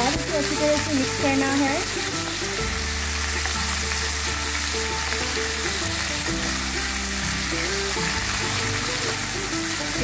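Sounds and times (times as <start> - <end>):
background music: 0.0 - 10.0
chicken sizzling in frying pan: 0.0 - 10.0.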